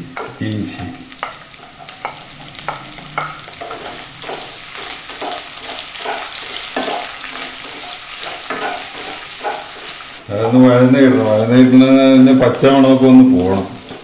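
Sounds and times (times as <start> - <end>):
food sizzling in hot oil: 0.0 - 14.0
utensil scraping a pan: 1.2 - 14.0.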